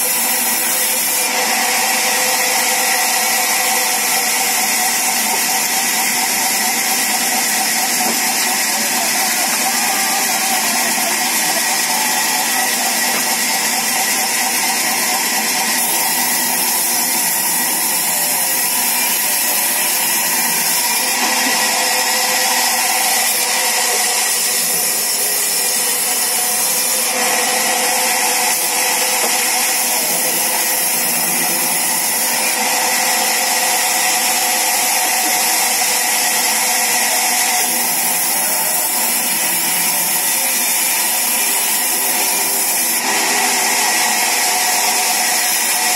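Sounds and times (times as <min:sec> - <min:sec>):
band saw cutting timber: 0:00.0 - 0:45.9.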